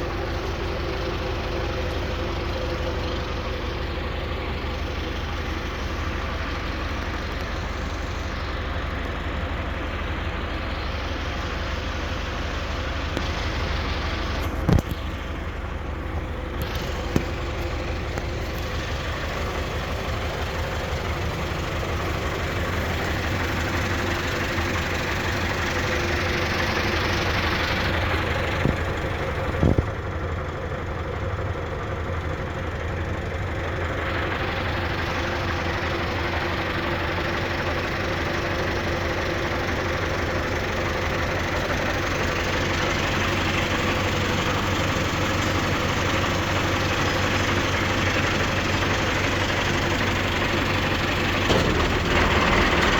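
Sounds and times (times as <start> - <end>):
tractor engine: 0.0 - 52.9.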